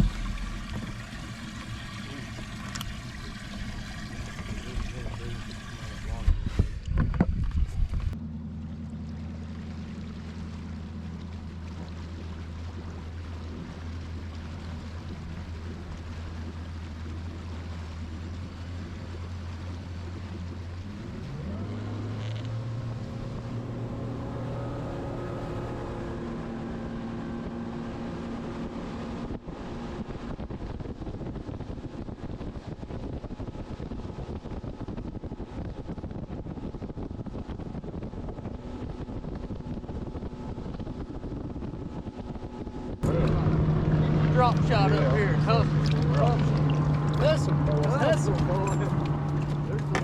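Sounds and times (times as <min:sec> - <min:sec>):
outboard motor running: 0:00.0 - 0:50.0.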